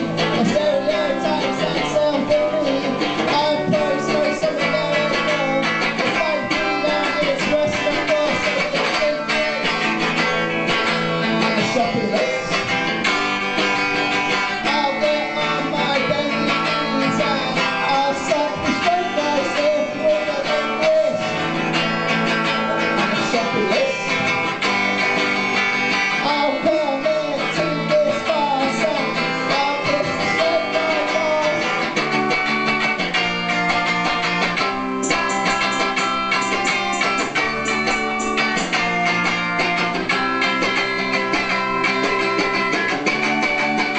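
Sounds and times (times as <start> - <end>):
strummed guitar: 0.0 - 43.9.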